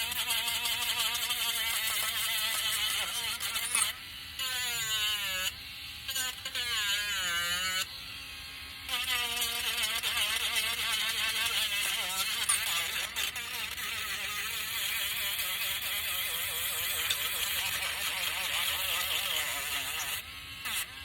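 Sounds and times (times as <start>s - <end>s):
electric sander whining on wood: 0.0s - 21.0s.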